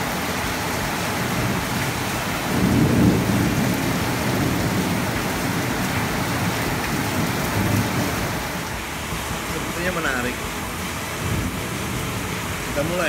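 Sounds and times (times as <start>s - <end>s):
heavy rain on street: 0.0s - 13.0s.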